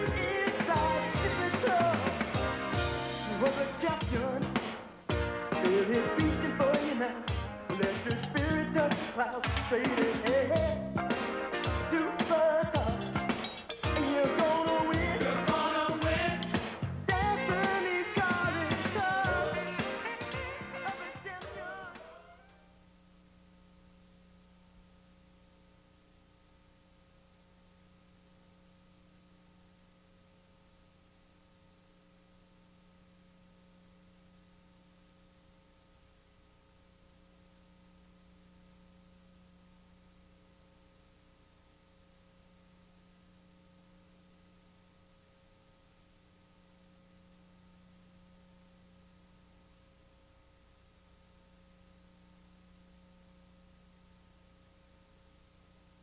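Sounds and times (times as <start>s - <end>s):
faint electrical hum with hiss: 0.0s - 56.0s.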